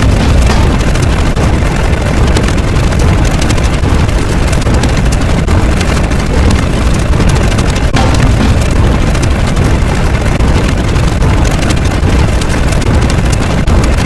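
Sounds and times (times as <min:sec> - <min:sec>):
loud steady rumbling noise: 0:00.0 - 0:14.0.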